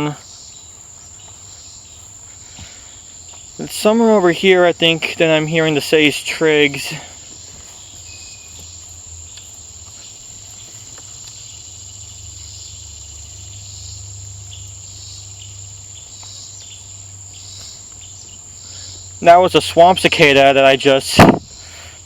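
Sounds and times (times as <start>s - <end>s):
cicada pulsing buzz: 0.0s - 22.0s
insect high trill: 0.0s - 22.0s.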